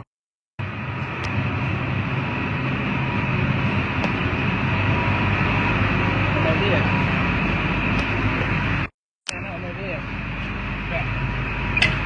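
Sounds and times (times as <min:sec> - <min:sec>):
large engine running: 0:00.6 - 0:12.0.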